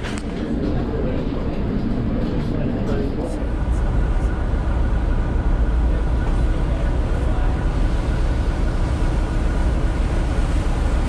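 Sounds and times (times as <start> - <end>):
ferry engines rumbling: 0.0 - 11.0.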